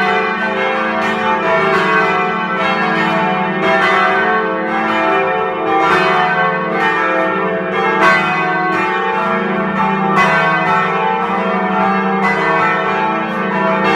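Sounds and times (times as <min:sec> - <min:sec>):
church bells pealing: 0:00.0 - 0:13.9.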